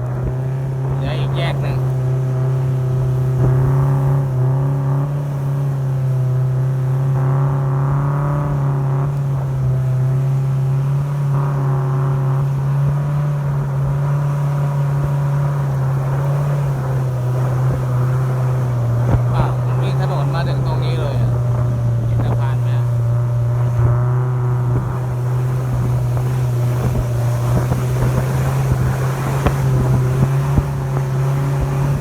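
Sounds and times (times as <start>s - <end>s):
speedboat engine droning: 0.0s - 32.0s.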